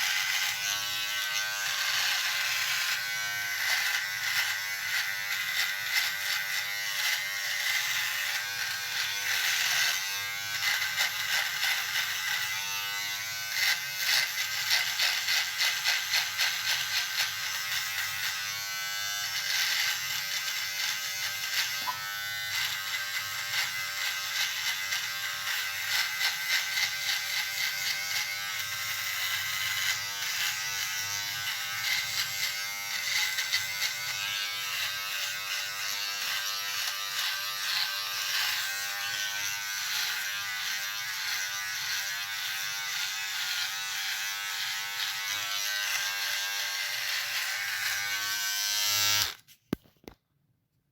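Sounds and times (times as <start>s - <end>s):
electric shaver buzzing: 0.0s - 49.5s.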